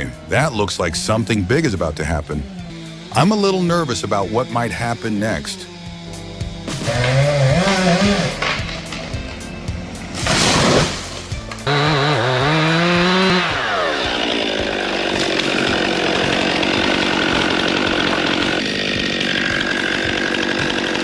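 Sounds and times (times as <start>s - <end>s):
chainsaw engine running: 0.0s - 21.0s.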